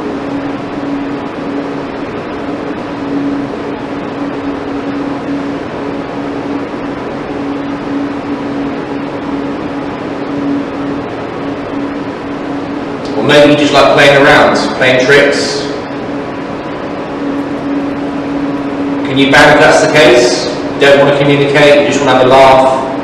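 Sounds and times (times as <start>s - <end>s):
machine hum with steady tone: 0.0s - 23.0s.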